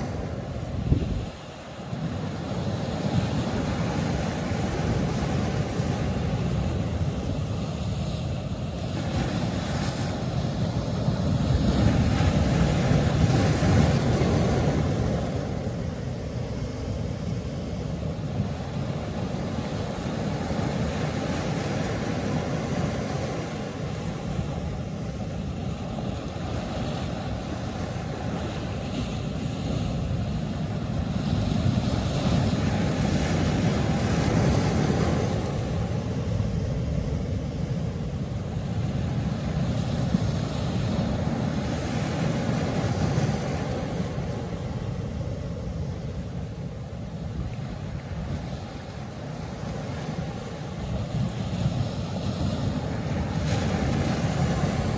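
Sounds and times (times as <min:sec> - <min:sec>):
ocean surf crashing on rocks: 0:00.0 - 0:54.9.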